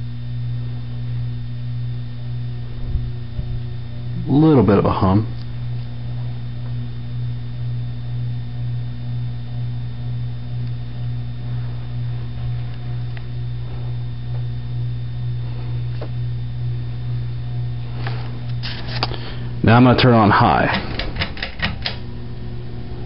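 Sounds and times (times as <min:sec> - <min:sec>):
ceiling fan motor humming: 0:00.0 - 0:23.0.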